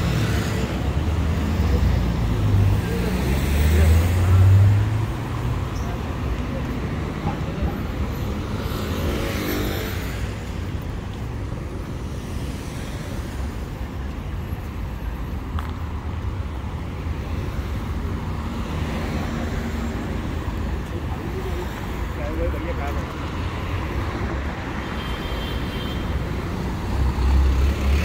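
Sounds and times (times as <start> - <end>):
cars driving by: 0.0 - 28.0
low traffic rumble: 0.0 - 28.0.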